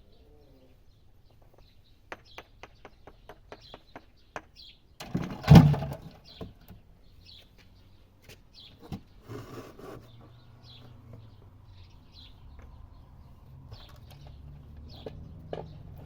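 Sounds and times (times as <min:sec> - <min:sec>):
small birds chirping: 0:00.0 - 0:05.0, 0:06.0 - 0:16.0.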